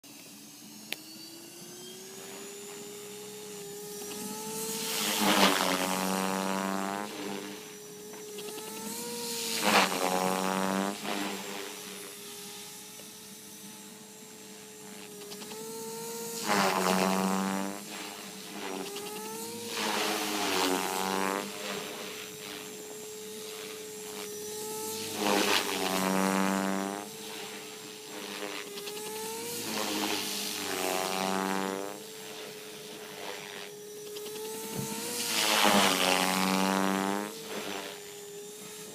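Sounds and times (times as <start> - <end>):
electric helicopter whine: 0.0 - 38.9
loud buzzing rattle: 0.2 - 38.9.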